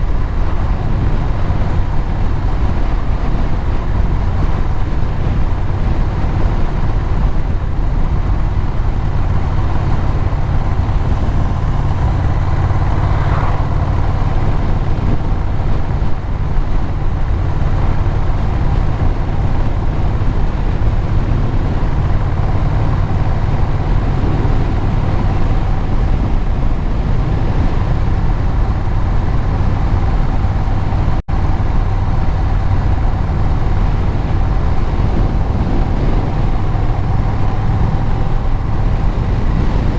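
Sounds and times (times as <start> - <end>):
road noise: 0.0 - 39.9
vehicle engine cruising: 0.0 - 39.9.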